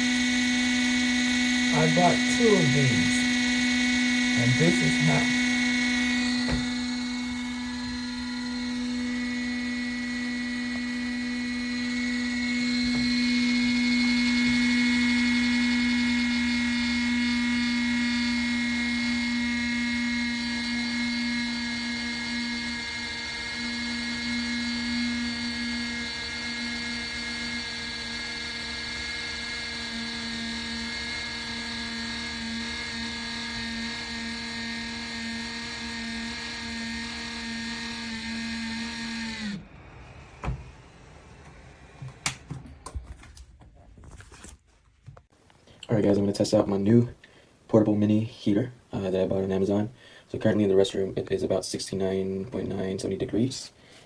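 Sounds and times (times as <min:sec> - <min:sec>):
space heater fan humming: 0:00.0 - 0:43.3.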